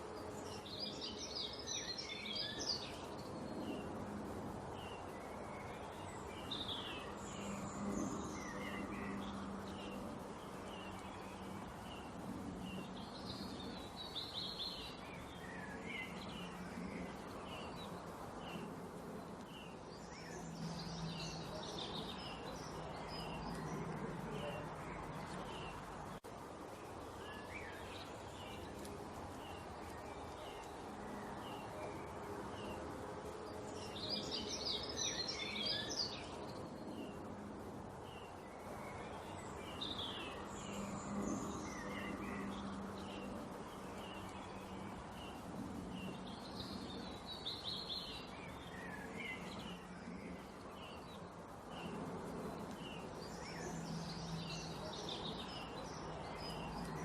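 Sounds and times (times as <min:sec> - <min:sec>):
background hum: 0:00.0 - 0:57.0
small birds chirping: 0:00.0 - 0:57.0.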